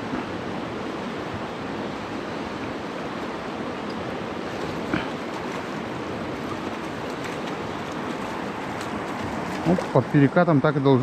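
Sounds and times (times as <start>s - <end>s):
river running over stones: 0.0s - 11.0s.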